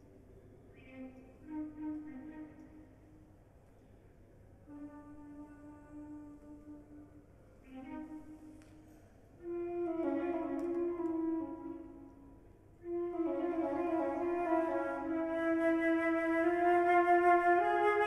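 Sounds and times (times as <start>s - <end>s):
flute playing low notes: 1.4s - 3.1s, 4.6s - 18.0s.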